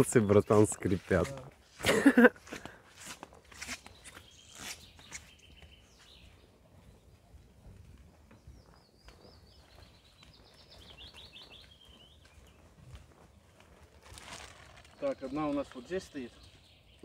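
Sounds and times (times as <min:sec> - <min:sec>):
faint footsteps on path: 0:00.0 - 0:17.0
songbird singing: 0:00.0 - 0:17.0.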